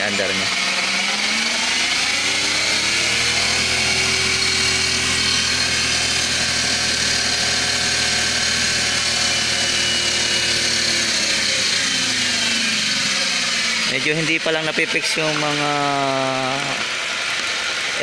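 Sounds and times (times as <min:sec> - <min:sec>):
car engine running and revving: 0:00.0 - 0:18.0.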